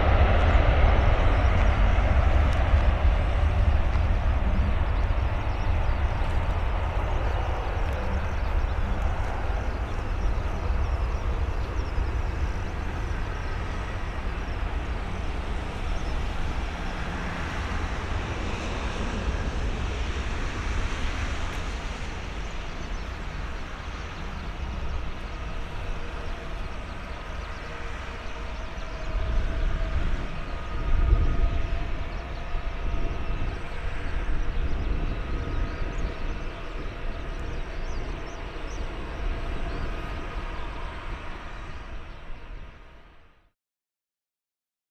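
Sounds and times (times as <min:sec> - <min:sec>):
jet engines roaring at takeoff: 0:00.0 - 0:43.4.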